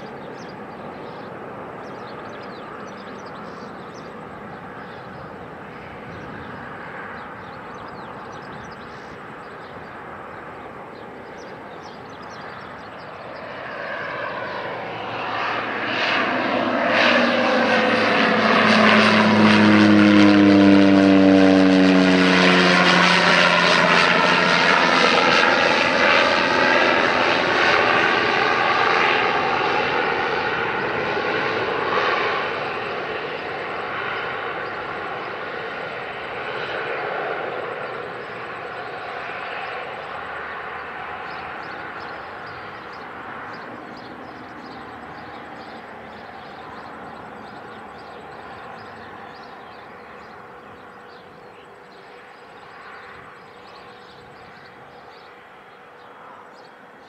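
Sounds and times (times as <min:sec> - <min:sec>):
propeller plane passing overhead: 0:00.0 - 0:57.0.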